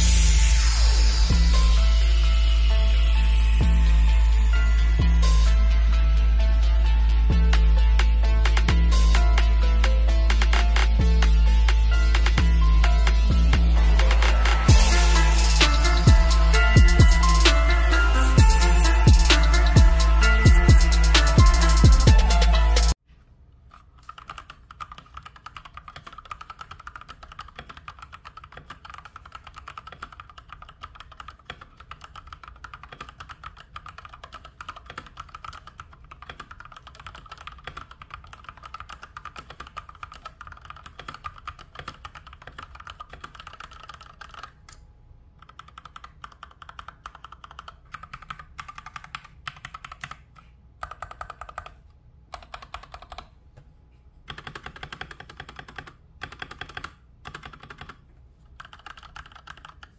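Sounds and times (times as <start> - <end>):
fast keyboard typing: 8.4 - 23.0, 23.7 - 44.6, 45.4 - 53.3, 54.3 - 58.0, 58.6 - 59.9.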